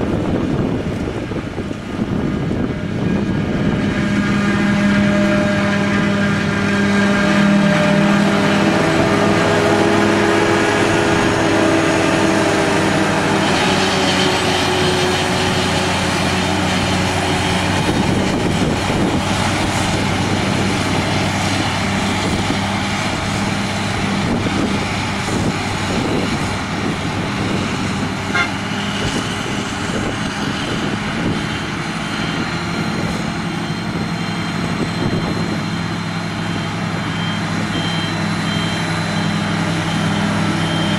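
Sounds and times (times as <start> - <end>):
broad rushing noise: 0.0 - 40.9
farm machinery engine hum: 0.0 - 40.9.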